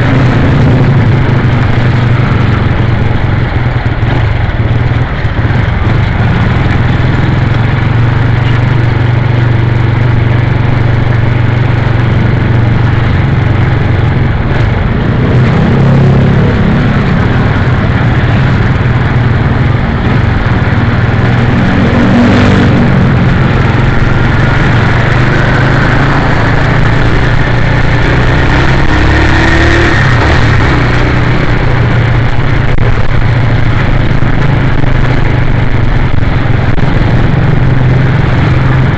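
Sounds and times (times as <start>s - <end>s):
loud rushing noise: 0.0s - 38.9s
motorcycle engine running: 0.0s - 38.9s.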